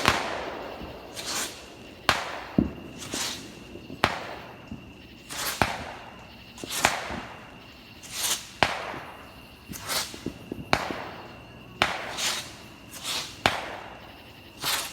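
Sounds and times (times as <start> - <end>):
firework hissing whoosh: 0.0 - 14.9
fireworks banging: 0.0 - 14.9.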